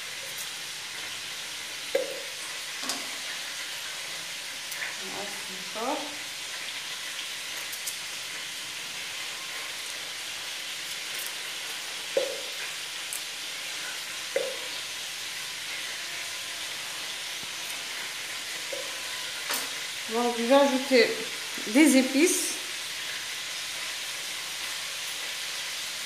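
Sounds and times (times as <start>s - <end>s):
meat sizzling in oil: 0.0s - 26.0s.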